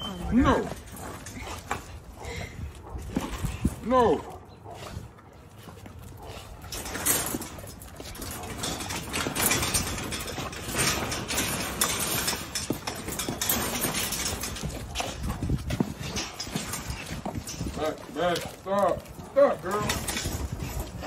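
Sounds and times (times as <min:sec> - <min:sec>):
wire kennel panel rattling: 0:00.0 - 0:04.4, 0:06.0 - 0:21.0.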